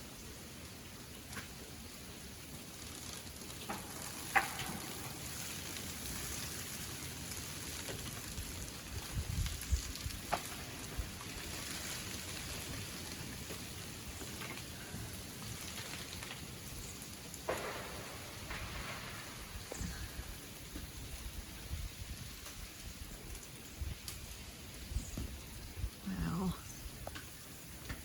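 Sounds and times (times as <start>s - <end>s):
freezing rain hissing and dripping: 0.0s - 28.0s.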